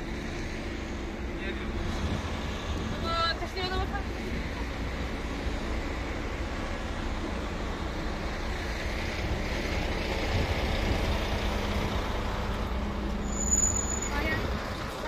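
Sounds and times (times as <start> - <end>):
coach engine rumble: 0.0 - 15.0
road noise: 0.0 - 15.0.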